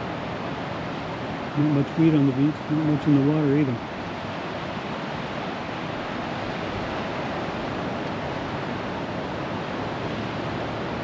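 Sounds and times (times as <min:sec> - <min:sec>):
surf rushing: 0:00.0 - 0:11.0
wind: 0:00.0 - 0:11.0.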